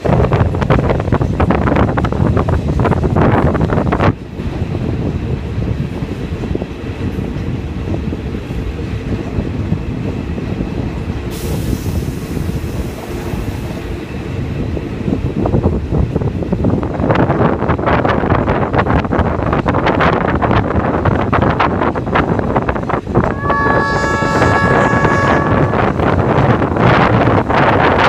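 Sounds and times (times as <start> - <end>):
train wheels rumbling on rail: 0.0 - 28.0
wind buffeting microphone: 0.0 - 28.0.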